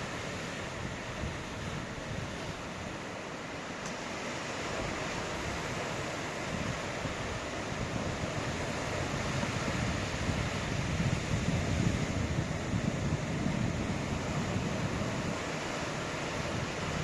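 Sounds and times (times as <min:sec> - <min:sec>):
wind buffeting the microphone: 0:00.0 - 0:03.1, 0:04.5 - 0:17.0
waves breaking: 0:00.0 - 0:17.0.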